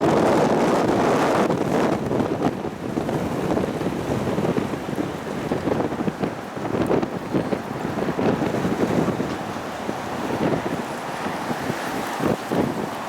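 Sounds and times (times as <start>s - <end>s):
wind gusting over microphone: 0.0s - 13.0s.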